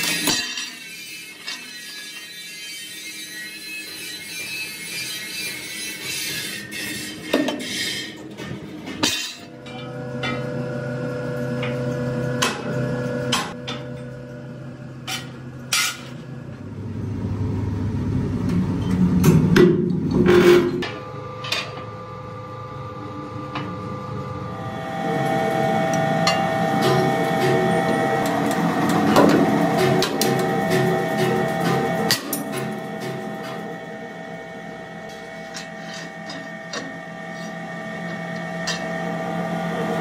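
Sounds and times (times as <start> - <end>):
machine hum: 7.3 - 40.0.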